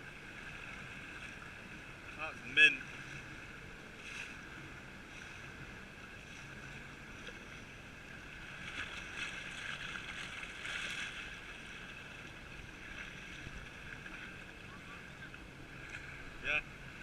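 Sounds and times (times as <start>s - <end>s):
jet ski engine running: 0.0s - 17.0s
water noise: 0.0s - 17.0s.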